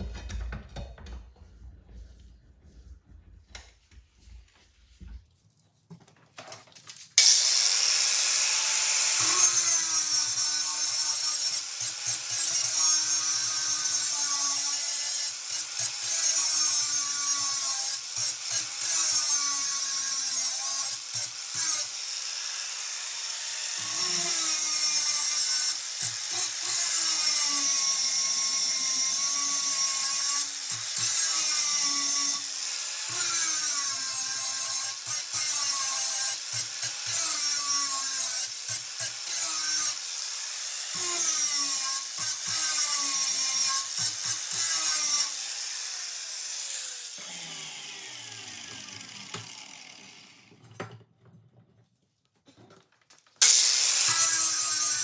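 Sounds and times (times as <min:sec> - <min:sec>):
electric grinder on metal: 0:07.2 - 0:50.6, 0:53.4 - 0:55.0.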